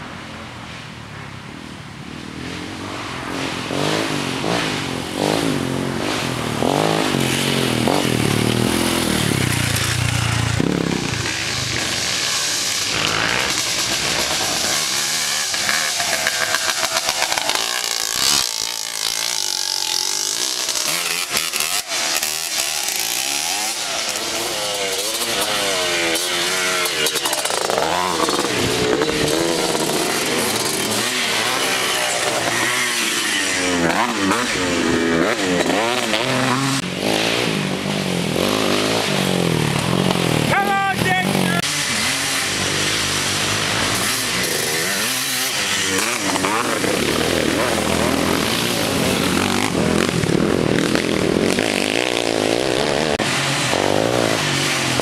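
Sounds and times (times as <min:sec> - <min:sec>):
quad bike engines revving: 0:02.4 - 0:55.0.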